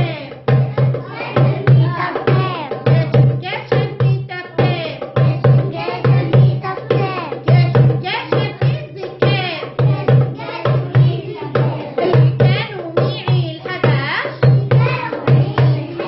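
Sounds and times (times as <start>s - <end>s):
woman singing: 0.0s - 0.6s, 1.2s - 16.0s
goblet drum rhythm: 0.0s - 16.0s.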